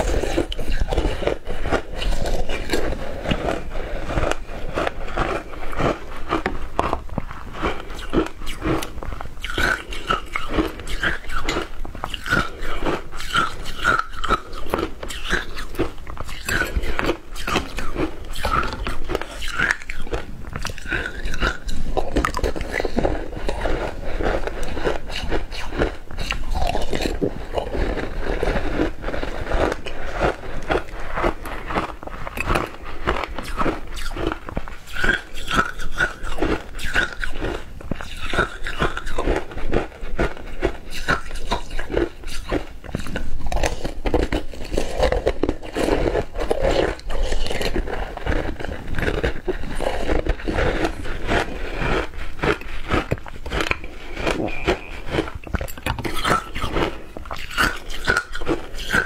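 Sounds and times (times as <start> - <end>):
shaved ice crunching and chewing: 0.0 - 59.0.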